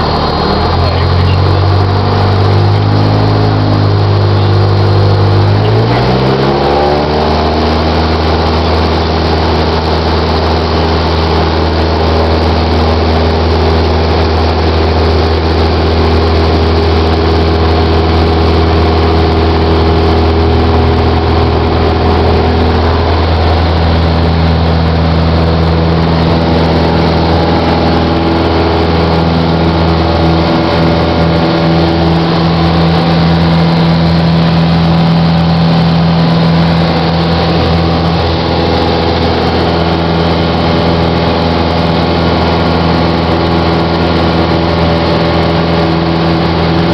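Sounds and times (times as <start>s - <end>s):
light airplane engine and propeller: 0.0s - 46.9s.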